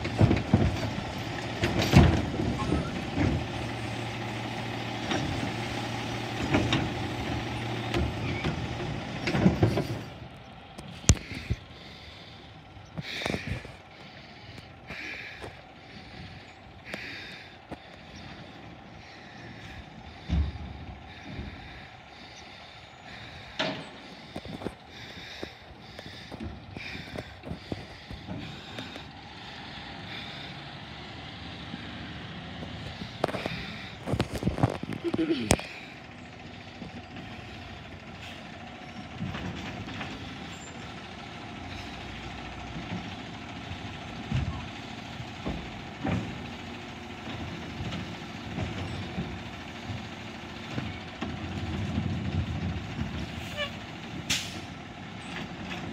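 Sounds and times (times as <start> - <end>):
garbage truck engine running: 0.0 - 55.9
truck arm lifting cart: 0.0 - 55.9.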